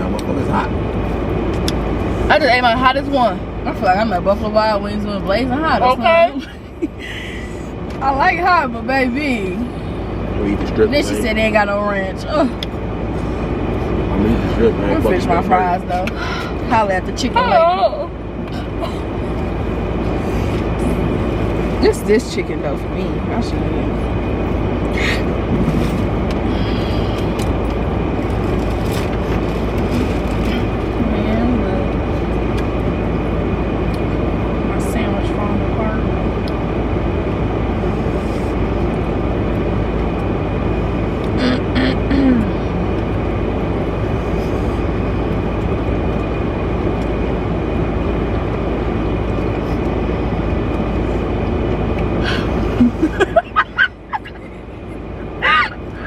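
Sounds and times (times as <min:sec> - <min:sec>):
car interior rumble and hiss: 0:00.0 - 0:56.0.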